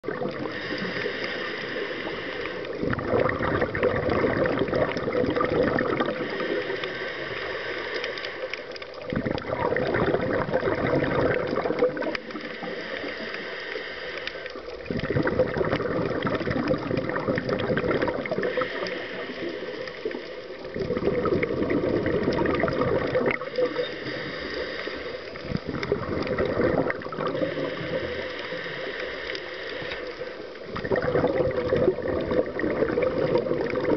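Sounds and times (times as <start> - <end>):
bubbling exhales: 0.0 - 33.9
regulator breathing underwater: 0.1 - 33.9.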